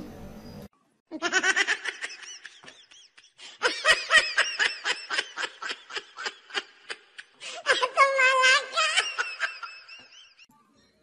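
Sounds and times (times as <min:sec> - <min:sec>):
high-pitched staccato laughter: 0:01.2 - 0:10.5.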